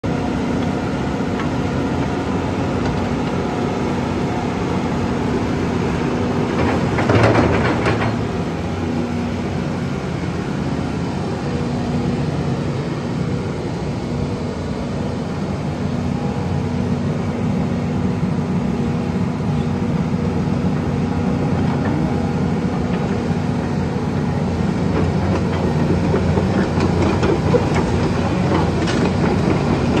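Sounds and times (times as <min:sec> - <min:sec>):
excavator diesel engine running: 0:00.1 - 0:30.0.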